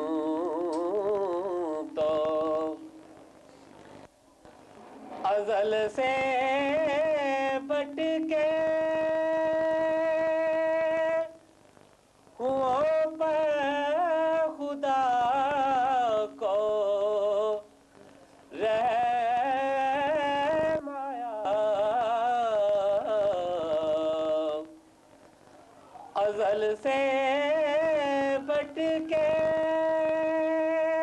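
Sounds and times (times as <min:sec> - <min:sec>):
man singing devotional verses: 0:00.0 - 0:03.0, 0:05.2 - 0:11.4, 0:12.4 - 0:17.7, 0:18.5 - 0:24.8, 0:26.1 - 0:31.0.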